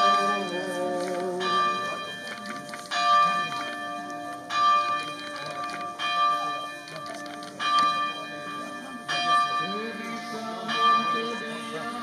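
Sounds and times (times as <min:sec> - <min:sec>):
church bell tolling slowly: 0:00.0 - 0:12.0.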